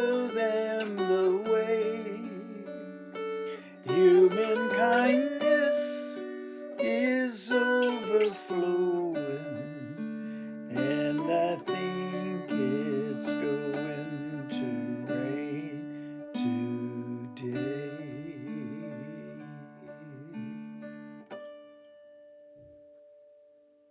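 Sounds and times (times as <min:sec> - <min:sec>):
person singing: 0:00.0 - 0:21.2
acoustic guitar playing: 0:00.0 - 0:23.8.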